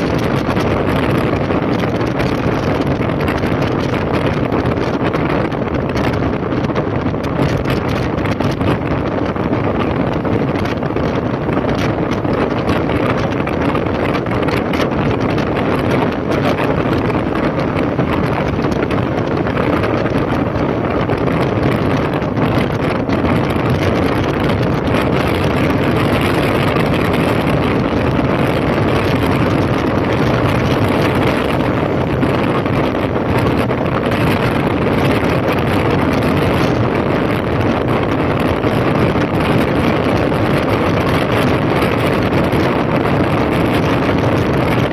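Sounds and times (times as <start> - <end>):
motorcycle engine cruising: 0.0 - 44.9
wind buffeting microphone: 0.0 - 44.9.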